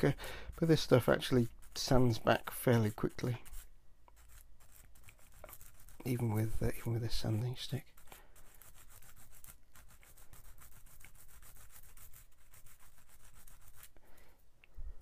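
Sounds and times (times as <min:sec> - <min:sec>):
sanding stick rubbing metal: 0:00.0 - 0:14.0.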